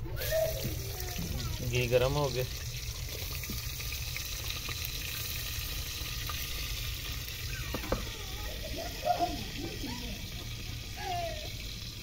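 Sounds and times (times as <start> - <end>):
onions sizzling in a pot: 0.1 - 12.0.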